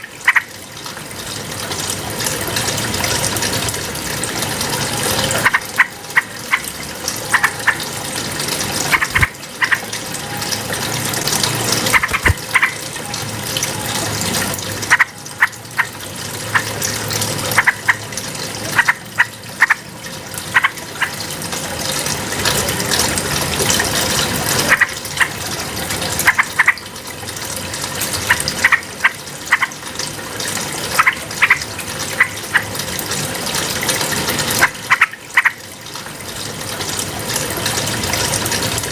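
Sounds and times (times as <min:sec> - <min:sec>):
running water rush: 0:00.0 - 0:38.9.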